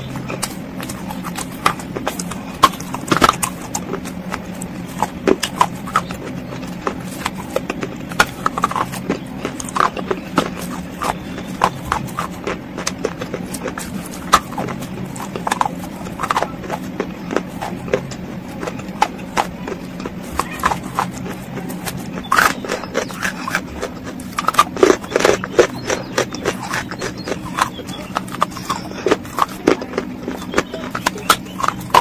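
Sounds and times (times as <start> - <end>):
low steady hum: 0.0 - 32.0
person crunching while chewing: 0.0 - 32.0.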